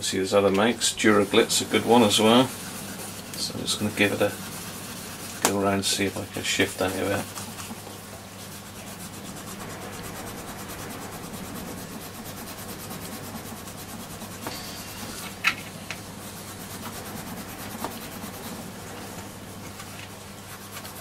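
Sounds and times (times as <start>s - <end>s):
scrubbing metal trim: 0.0s - 21.0s.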